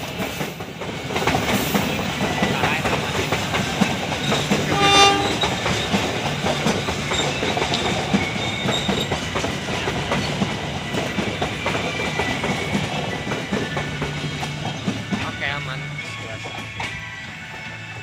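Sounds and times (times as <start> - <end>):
wheels clacking over rail joints: 0.0 - 17.2
train rumbling past: 0.0 - 18.0.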